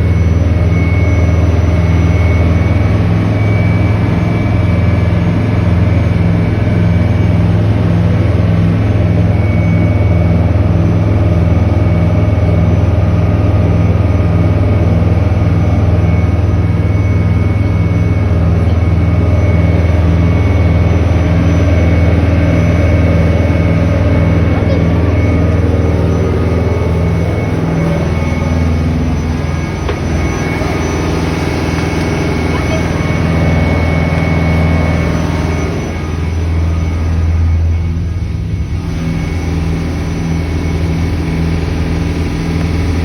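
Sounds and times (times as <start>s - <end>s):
motorboat engine droning: 0.0s - 43.0s.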